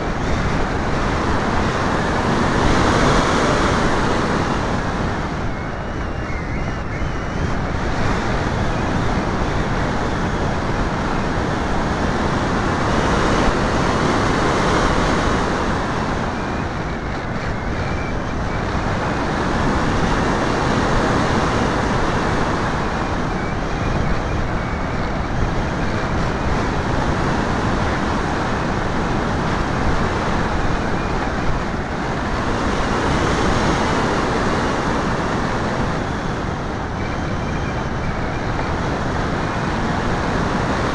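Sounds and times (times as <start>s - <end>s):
airflow over microphone: 0.0s - 40.9s.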